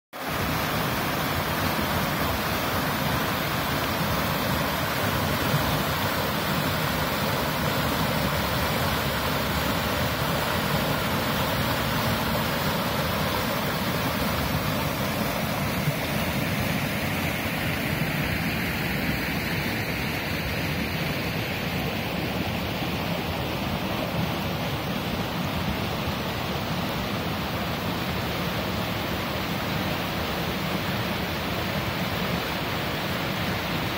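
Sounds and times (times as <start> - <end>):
stream rushing over boulders: 0.1 - 33.9.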